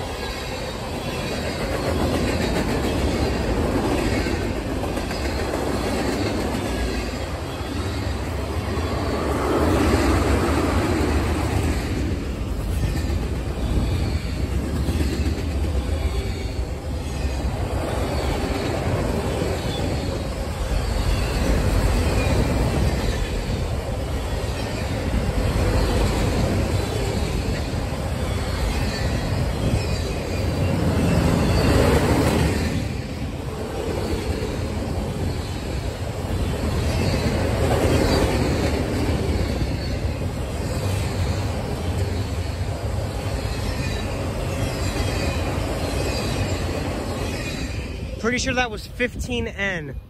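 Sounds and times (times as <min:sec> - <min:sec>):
freight train wheels rumbling: 0:00.0 - 0:49.4.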